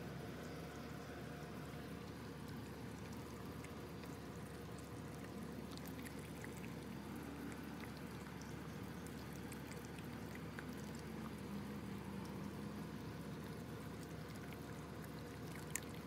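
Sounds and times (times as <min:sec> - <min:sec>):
puppy gnawing and licking: 0:02.0 - 0:16.0.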